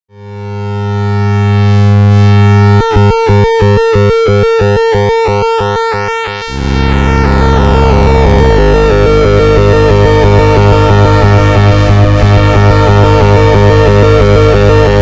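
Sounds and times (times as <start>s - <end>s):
synthesizer low drone pulsing: 0.1s - 15.0s.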